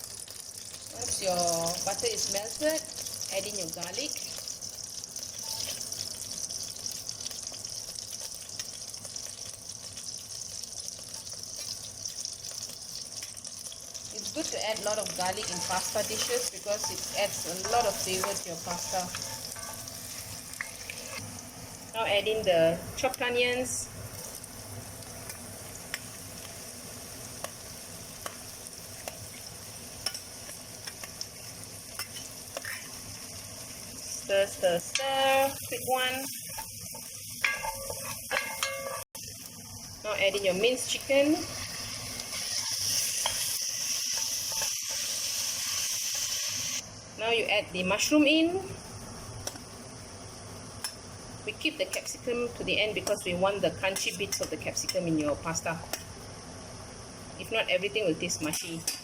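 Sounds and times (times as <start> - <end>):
garlic sizzling in butter: 0.0 - 59.0.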